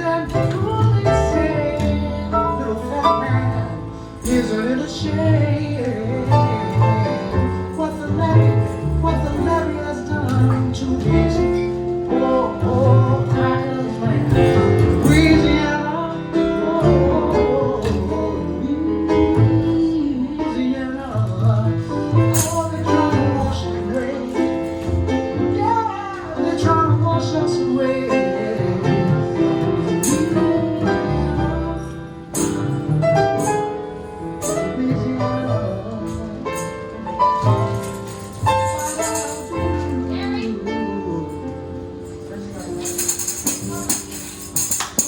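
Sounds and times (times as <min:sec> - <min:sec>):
person singing: 0:00.0 - 0:32.7, 0:34.2 - 0:45.0.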